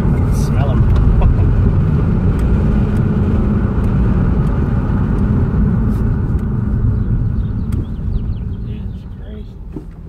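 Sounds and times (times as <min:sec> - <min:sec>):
car interior engine rumble: 0:00.0 - 0:10.0.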